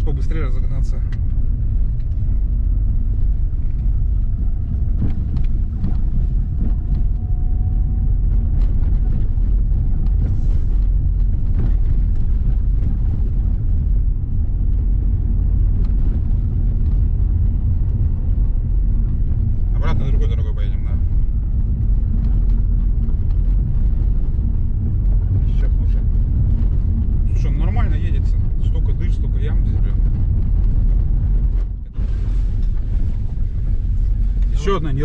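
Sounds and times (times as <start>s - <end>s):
faint car whine: 0.0s - 35.0s
road and tyre rumble: 0.0s - 35.0s.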